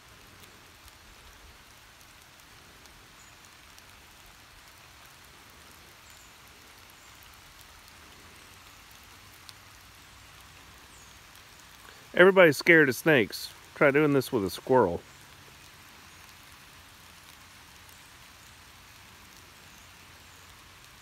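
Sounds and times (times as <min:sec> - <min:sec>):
faint forest hiss: 0:00.0 - 0:21.0.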